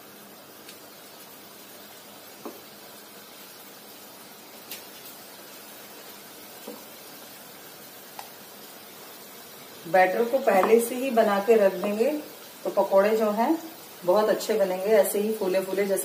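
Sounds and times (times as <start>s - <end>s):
batter sizzling in hot oil: 0.0s - 16.0s.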